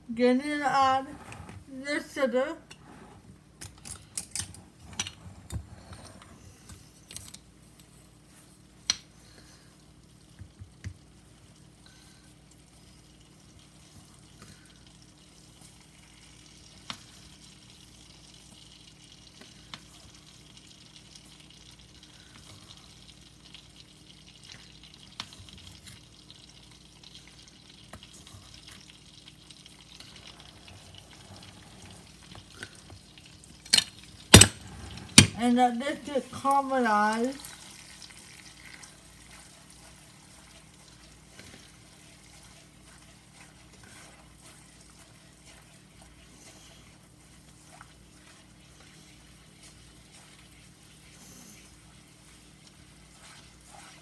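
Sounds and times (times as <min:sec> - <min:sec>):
butter sizzling in a frying pan: 0:08.5 - 0:54.0.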